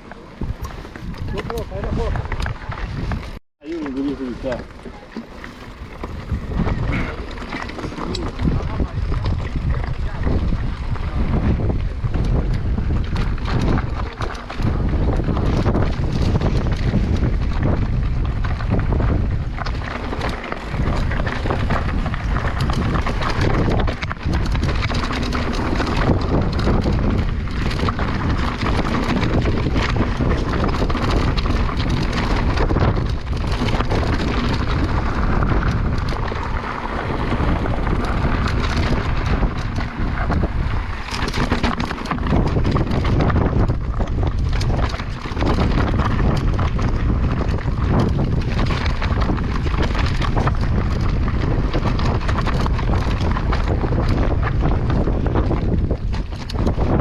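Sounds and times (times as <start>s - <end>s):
bike rattling on rough trail: 0.0s - 57.0s
wind buffeting microphone: 0.0s - 57.0s.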